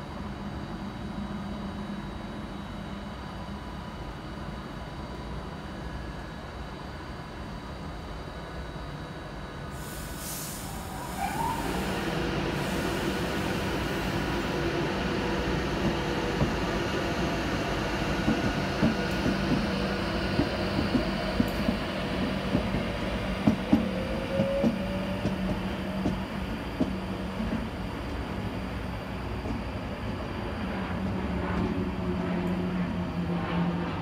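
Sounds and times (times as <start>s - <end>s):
electric train hum and running noise: 0.0s - 34.0s.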